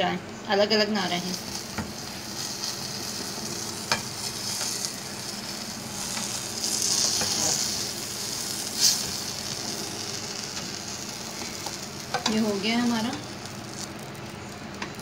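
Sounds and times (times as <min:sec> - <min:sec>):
food sizzling in a frying pan: 0:00.8 - 0:15.0.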